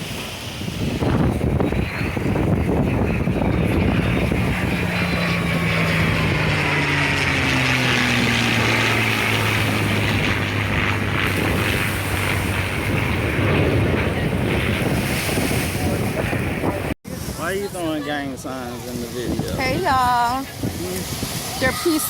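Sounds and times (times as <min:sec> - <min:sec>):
aircraft engine flying past: 0:00.0 - 0:22.0
wind rumble on microphone: 0:00.0 - 0:22.0.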